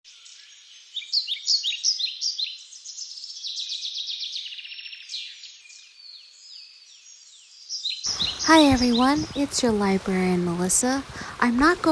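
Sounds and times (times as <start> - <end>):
songbirds chirping and trilling: 0.1 - 11.9.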